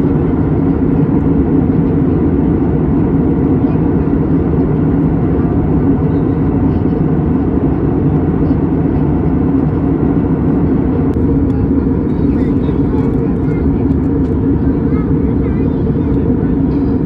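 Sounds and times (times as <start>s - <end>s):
airplane engine and airflow: 0.0s - 17.0s.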